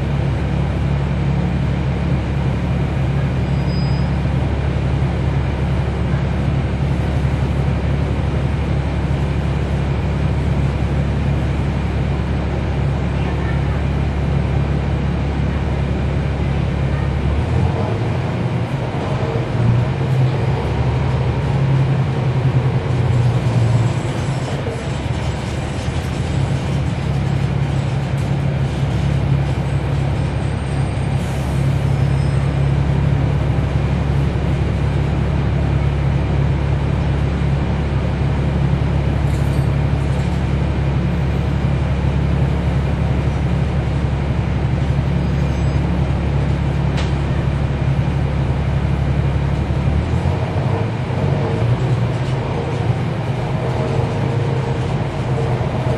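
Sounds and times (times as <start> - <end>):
bus diesel engine droning: 0.0 - 55.9.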